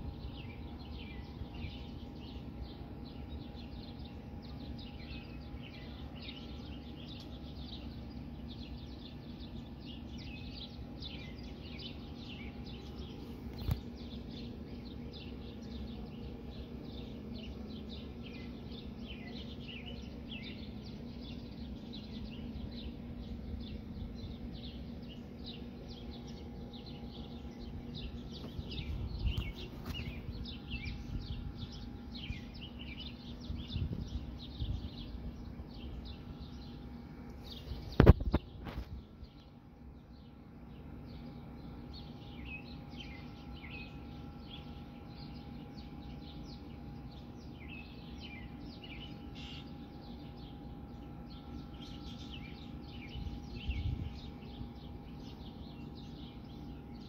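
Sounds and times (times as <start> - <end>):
low background hum: 0.0 - 57.0
small birds chirping: 0.0 - 57.0.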